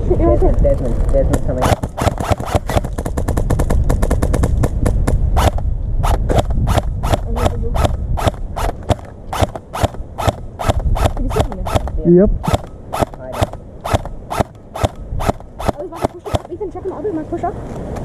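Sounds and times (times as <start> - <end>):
low rumble: 0.0 - 15.9
airsoft gun firing: 1.6 - 16.5.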